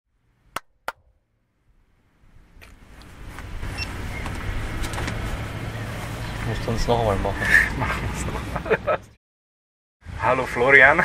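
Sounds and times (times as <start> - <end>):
outdoor background noise: 0.1 - 9.2.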